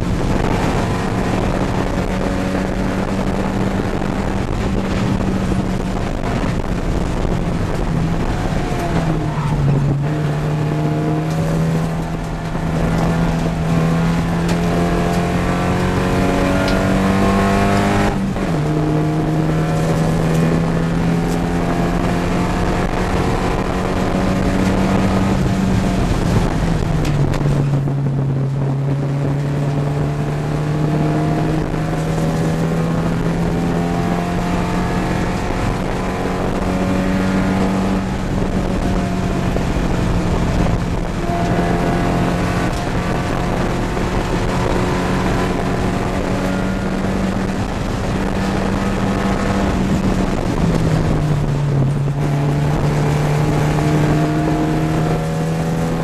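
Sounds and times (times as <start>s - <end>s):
race car engine: 0.0s - 56.0s.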